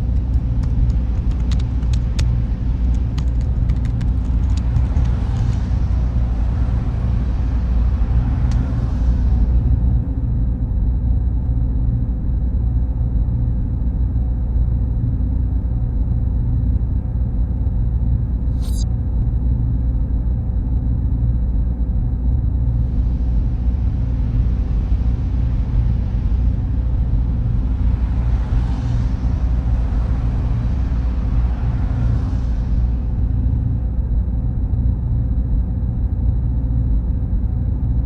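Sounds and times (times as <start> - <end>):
hum of machines and cooling fans: 0.0 - 38.0
faint high-pitched whines: 5.6 - 38.0.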